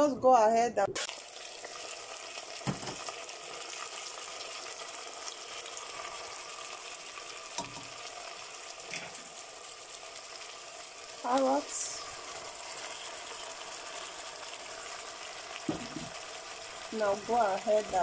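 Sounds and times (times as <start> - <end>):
vegetables sizzling in a pot: 1.0 - 18.0.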